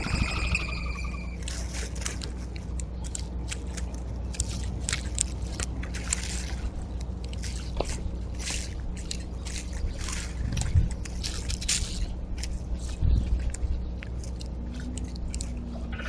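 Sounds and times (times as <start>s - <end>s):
clicks and scrapes at feeder: 1.4s - 15.8s.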